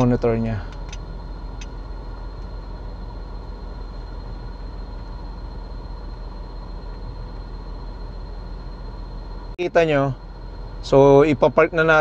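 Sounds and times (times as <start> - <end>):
air conditioning running: 0.0 - 12.0
car engine idling in cabin: 0.0 - 12.0.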